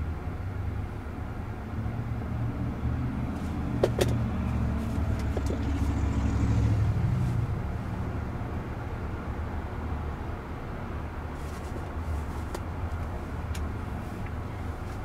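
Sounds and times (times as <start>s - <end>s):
road traffic rumbling past: 0.0s - 15.0s.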